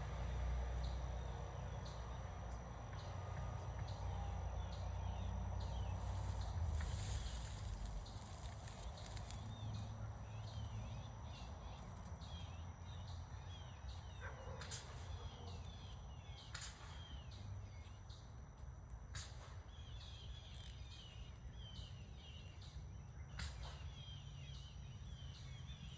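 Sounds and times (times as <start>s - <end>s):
faint birdsong: 0.0s - 18.4s, 19.1s - 25.9s.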